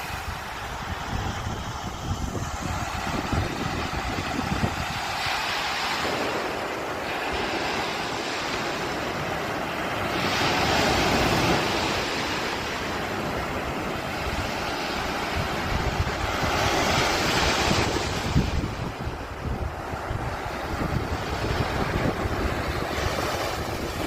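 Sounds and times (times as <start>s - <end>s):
waves breaking on shore: 0.0s - 24.0s
wind buffeting microphone: 0.0s - 24.0s.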